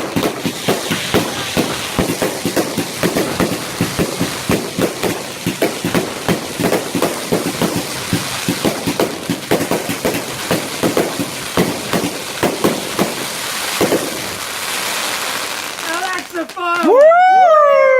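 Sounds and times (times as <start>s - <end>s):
fireworks bangs and pops: 0.0s - 17.6s.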